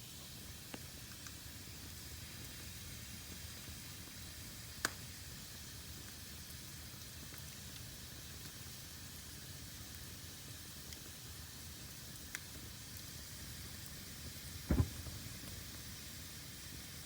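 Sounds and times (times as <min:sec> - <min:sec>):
fire crackle: 0:00.0 - 0:17.0
fire hissing and rumbling: 0:00.0 - 0:17.0.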